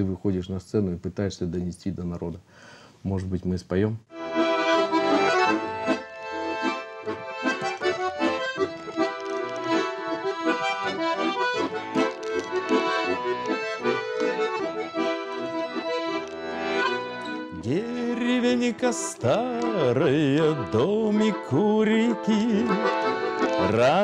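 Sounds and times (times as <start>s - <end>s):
button accordion playing folk tune: 4.1s - 24.0s.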